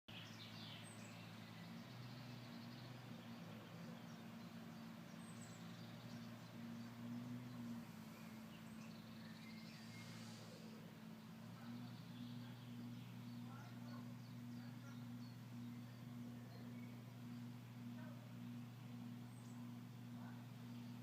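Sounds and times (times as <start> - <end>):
small bird chirping: 0.1 - 21.0
steady low hum: 0.1 - 21.0.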